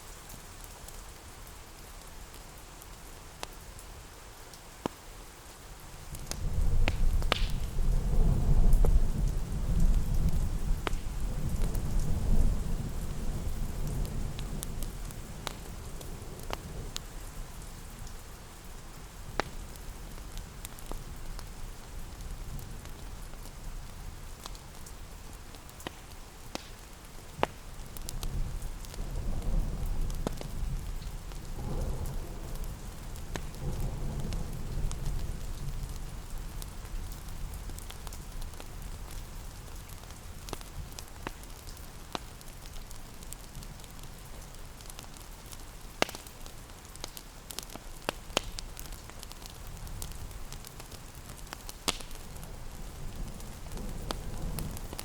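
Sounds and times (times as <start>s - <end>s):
fire crackles: 0.0s - 55.0s
steady rain: 0.0s - 55.0s.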